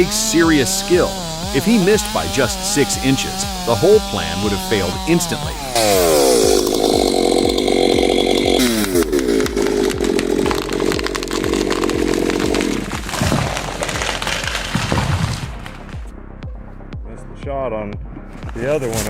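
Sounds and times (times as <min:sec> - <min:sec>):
chainsaw running at full throttle: 0:00.0 - 0:16.0.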